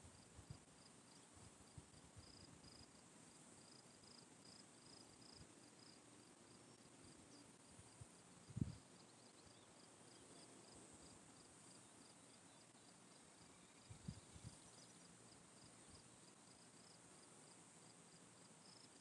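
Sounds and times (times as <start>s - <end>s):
faint cricket chirping: 0.0s - 19.0s
high insect hiss: 0.0s - 19.0s.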